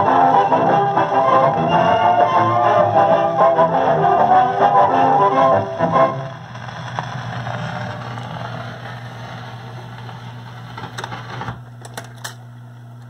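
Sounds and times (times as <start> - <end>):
low electrical hum: 0.0 - 13.0
record surface hiss: 0.0 - 13.0.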